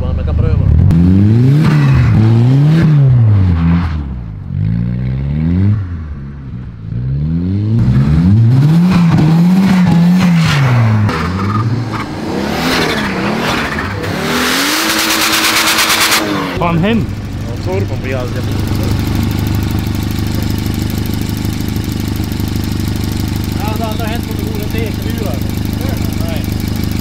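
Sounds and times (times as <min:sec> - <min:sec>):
car engine revving: 0:00.0 - 0:27.0
engine crackle at high revs: 0:00.5 - 0:05.9, 0:06.8 - 0:27.0.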